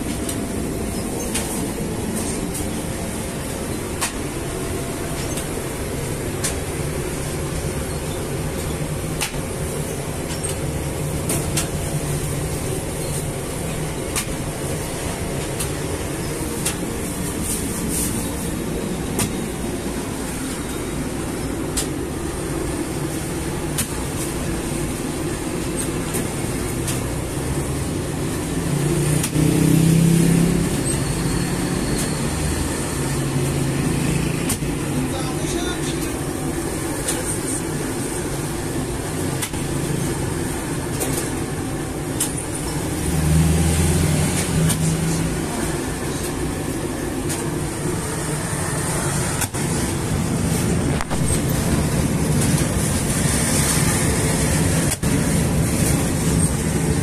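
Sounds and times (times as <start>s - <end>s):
bakery machinery humming: 0.0s - 57.0s.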